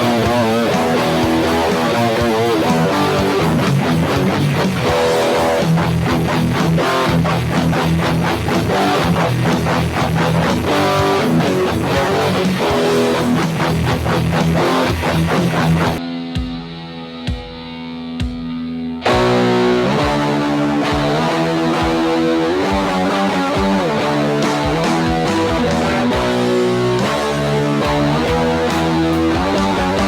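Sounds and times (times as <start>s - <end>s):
electric guitar rock riff: 0.0s - 30.0s.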